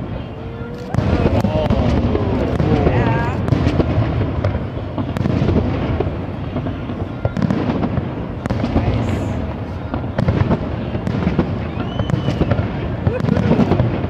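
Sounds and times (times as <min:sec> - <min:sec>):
fireworks booming: 0:00.0 - 0:14.0
fireworks cracking: 0:00.0 - 0:14.0.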